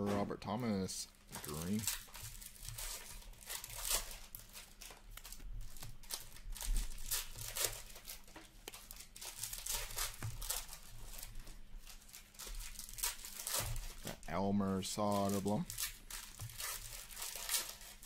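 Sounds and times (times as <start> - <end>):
plastic wrapper crinkling and tearing: 1.0 - 18.0
cards being handled: 1.2 - 14.2, 15.0 - 18.0.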